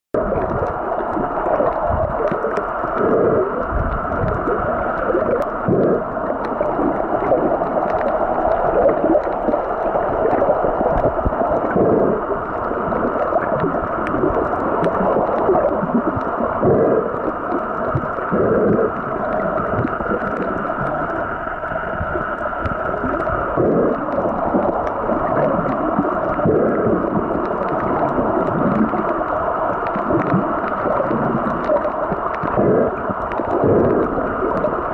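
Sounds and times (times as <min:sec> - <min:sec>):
muffled underwater rush: 0:00.2 - 0:34.9.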